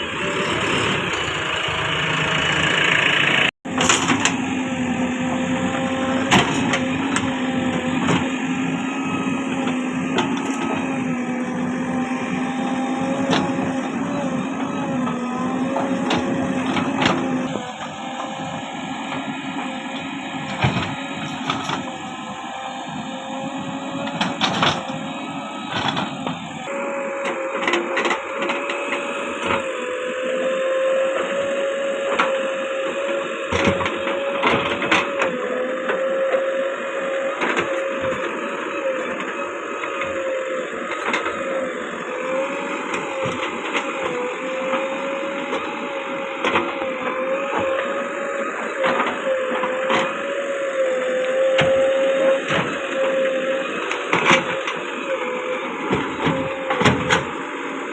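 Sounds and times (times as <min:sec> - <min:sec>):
backhoe engine and hydraulics whining: 0:00.0 - 0:57.9.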